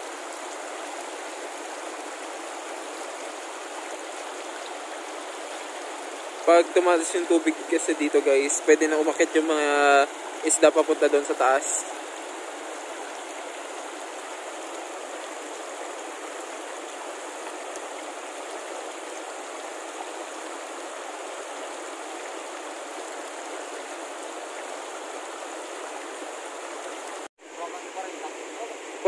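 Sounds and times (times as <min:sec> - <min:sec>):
stream rushing over boulders: 0:00.0 - 0:29.0.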